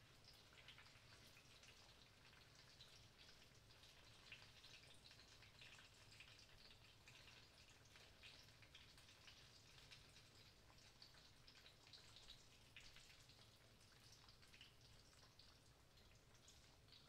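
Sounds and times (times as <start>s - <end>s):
eggplant slices frying in oil: 0.0s - 17.0s.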